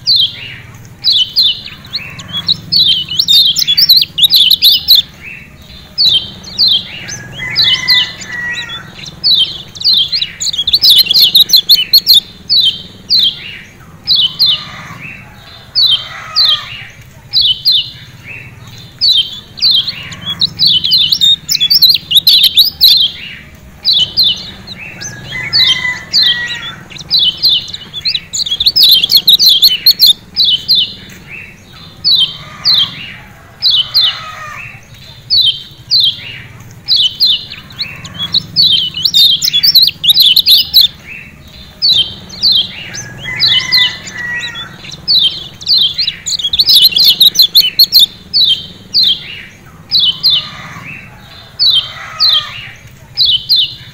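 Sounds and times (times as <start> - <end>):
bird chirping: 0.0 - 53.9.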